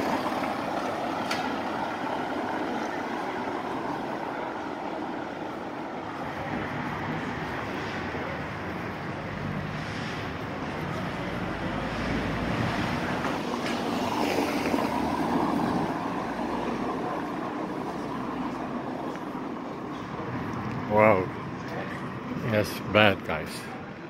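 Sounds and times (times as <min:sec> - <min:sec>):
distant traffic: 0:00.0 - 0:24.0.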